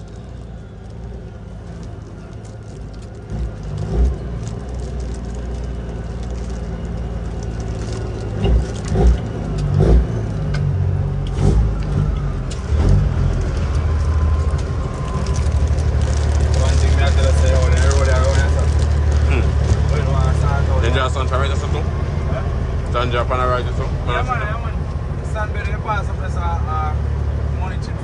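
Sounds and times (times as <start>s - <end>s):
diesel truck engine under load: 0.0s - 28.0s.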